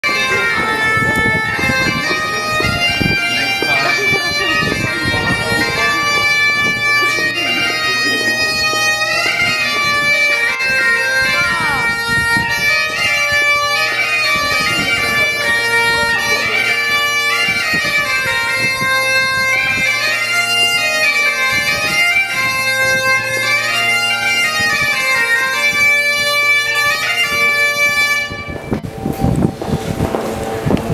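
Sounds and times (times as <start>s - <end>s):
bagpipe playing lively melody: 0.0s - 30.9s.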